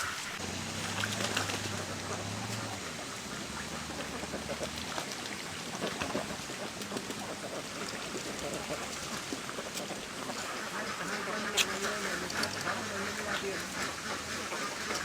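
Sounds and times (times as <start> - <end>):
ducks calling softly: 0.0 - 15.0
low steady hum: 0.0 - 15.0.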